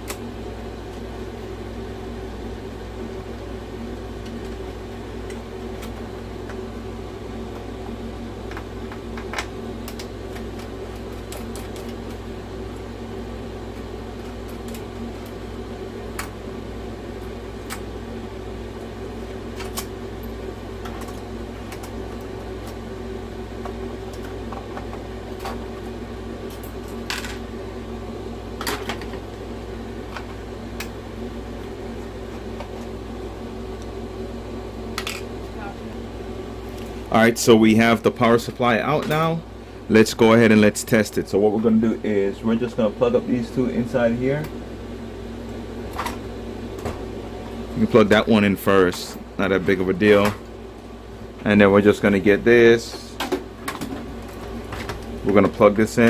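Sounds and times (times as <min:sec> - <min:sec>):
steady background hum: 0:00.0 - 0:56.0.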